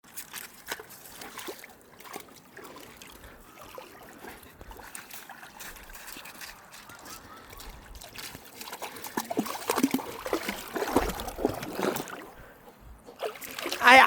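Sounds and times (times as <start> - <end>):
small water splashes: 0.0 - 14.0
stream water babbling: 0.0 - 14.0.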